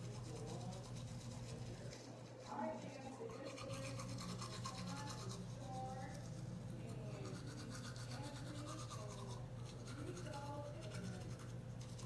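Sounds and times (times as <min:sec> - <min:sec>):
toothbrush scrubbing teeth: 0:00.0 - 0:12.0.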